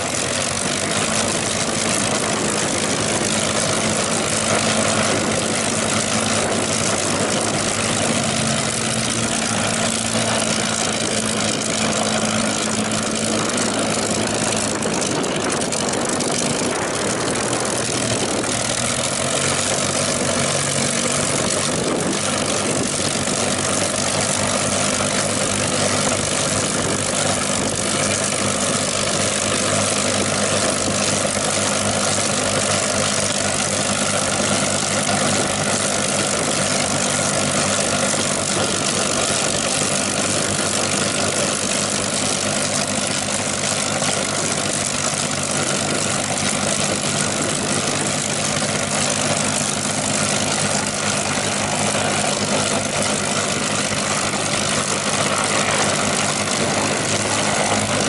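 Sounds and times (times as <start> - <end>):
aircraft engine idling: 0.0 - 58.0.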